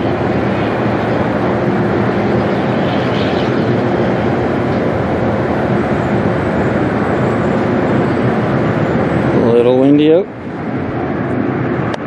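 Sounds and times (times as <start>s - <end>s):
jet plane passing low: 0.0s - 12.0s
wind buffeting microphone: 0.0s - 12.0s.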